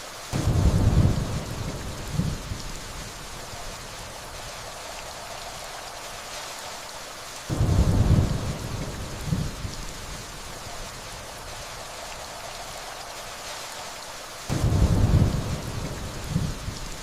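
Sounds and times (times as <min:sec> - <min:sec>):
gentle rainfall: 0:00.0 - 0:17.0
distant thunder rumble: 0:00.3 - 0:05.9, 0:07.5 - 0:13.1, 0:14.5 - 0:17.0.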